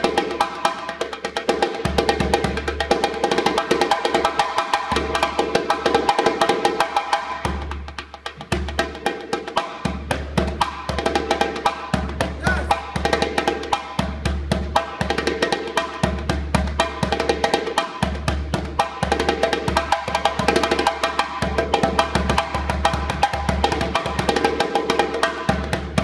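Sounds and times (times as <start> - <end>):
hand drum solo: 0.0 - 26.0.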